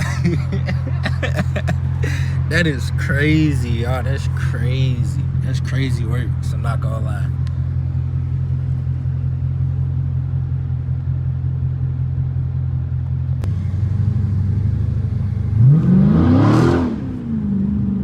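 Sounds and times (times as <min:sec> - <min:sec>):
car engine droning and revving: 0:00.0 - 0:18.0.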